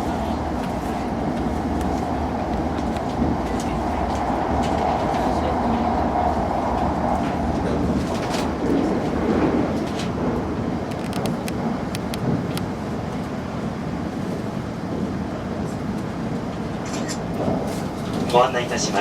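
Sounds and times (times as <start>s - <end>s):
train rumble and hum: 0.0s - 19.0s.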